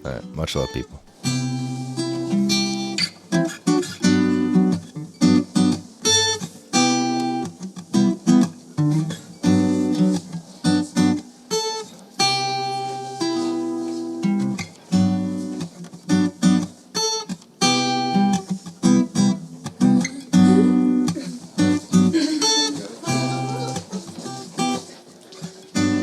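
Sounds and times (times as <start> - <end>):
guitar strumming chords: 0.0 - 26.0.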